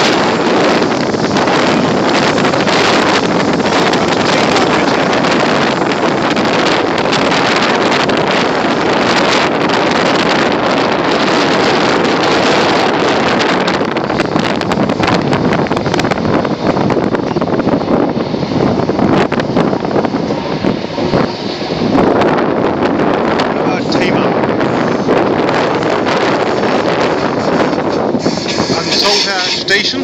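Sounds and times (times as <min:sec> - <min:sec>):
train running noise: 0:00.0 - 0:30.0
wind noise on microphone: 0:00.0 - 0:30.0.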